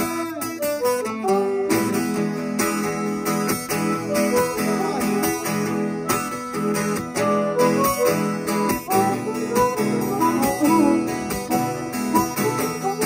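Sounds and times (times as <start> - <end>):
acoustic guitar strumming: 0.0 - 13.0
harmonica notes: 0.0 - 13.0.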